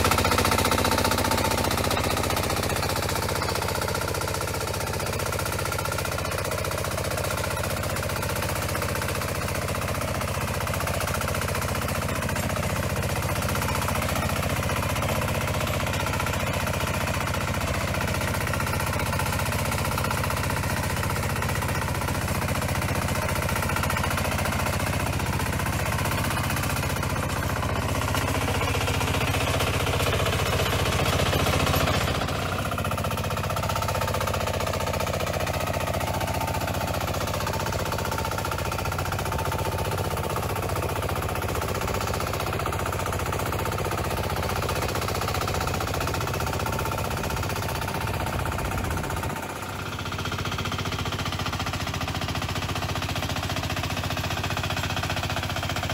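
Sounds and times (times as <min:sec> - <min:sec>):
small engine knocking under load: 0:00.0 - 0:55.9.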